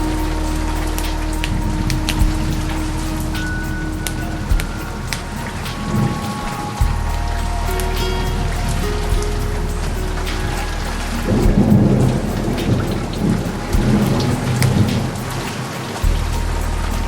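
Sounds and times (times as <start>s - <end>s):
held saxophone notes: 0.0s - 17.0s
steady rain: 0.0s - 17.0s
thunder rumbling: 0.0s - 17.0s.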